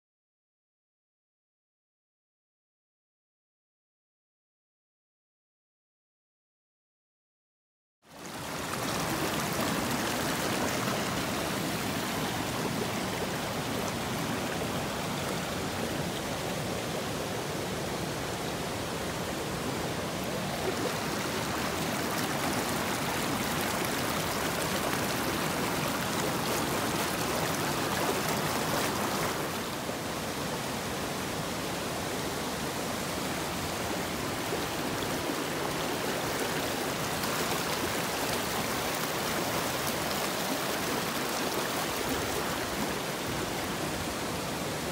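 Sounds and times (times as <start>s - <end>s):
stream rushing over rocks: 8.1s - 44.9s.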